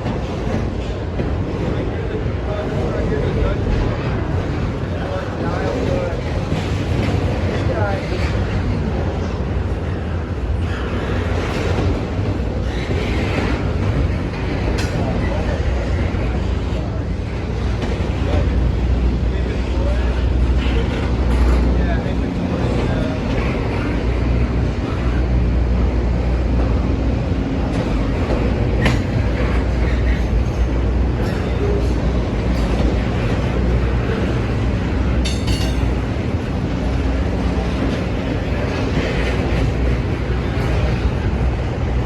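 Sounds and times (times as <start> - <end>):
freight train cars rolling past: 0.0 - 42.0.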